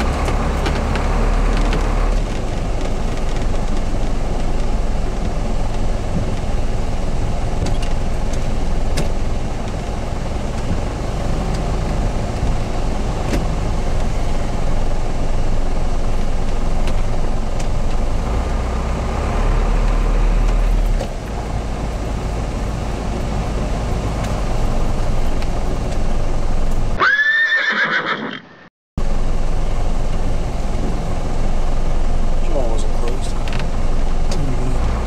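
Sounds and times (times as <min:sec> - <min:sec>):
vehicle interior rumble: 0:00.0 - 0:27.0, 0:29.0 - 0:35.0.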